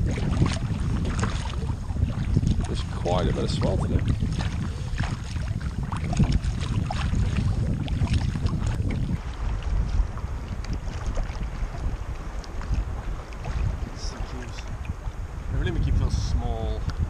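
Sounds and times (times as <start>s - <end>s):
sea water splashing around kayak: 0.0s - 17.0s
wind rumble on microphone: 0.0s - 17.0s.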